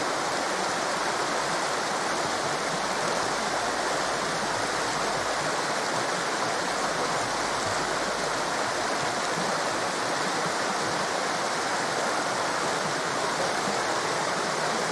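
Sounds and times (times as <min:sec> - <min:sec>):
rushing water: 0:00.0 - 0:14.9.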